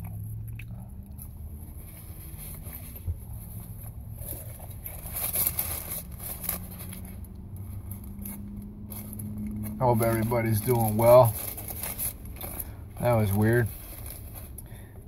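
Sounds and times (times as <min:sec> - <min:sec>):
rustling: 0:01.2 - 0:15.0.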